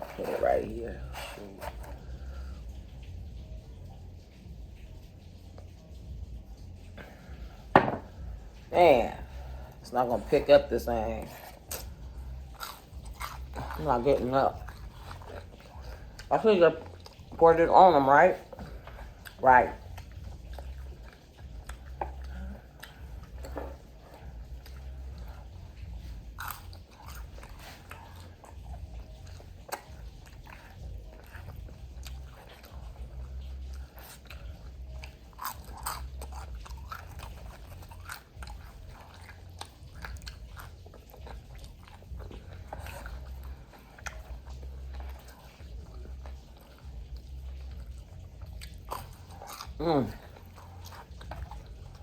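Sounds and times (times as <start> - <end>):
person chewing crispy fried food: 0.0 - 52.0.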